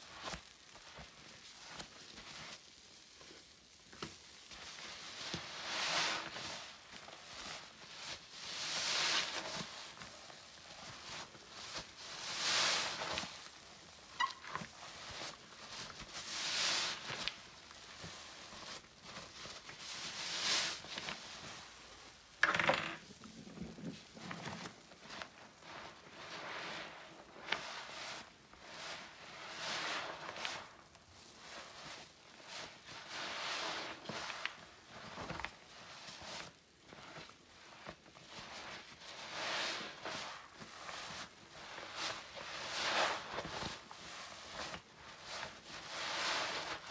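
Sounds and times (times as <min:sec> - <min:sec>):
wet sponge squelching: 0:00.1 - 0:03.6, 0:04.3 - 0:22.3, 0:23.4 - 0:46.9.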